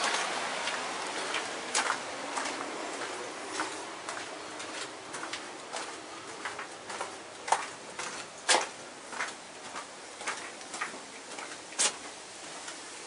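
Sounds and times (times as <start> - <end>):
footsteps on gravel: 0.0 - 12.8.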